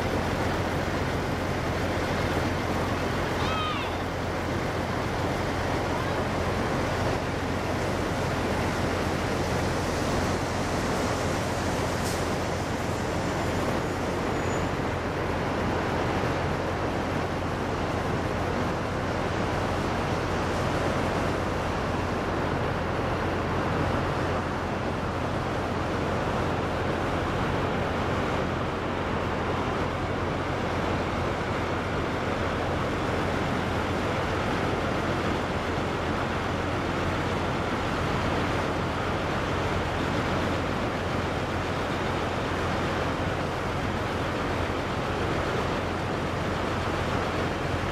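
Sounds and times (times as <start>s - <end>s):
river rushing roar: 0.0s - 47.9s.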